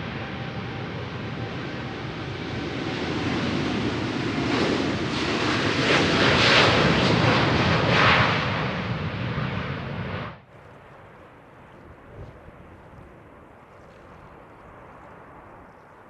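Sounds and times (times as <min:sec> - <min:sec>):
jet engines passing: 0:00.0 - 0:16.0.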